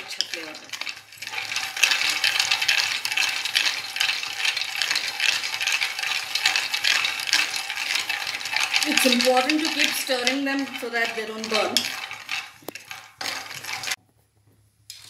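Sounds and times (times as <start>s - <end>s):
nuts rattling in a stirred pan: 0.0s - 14.0s.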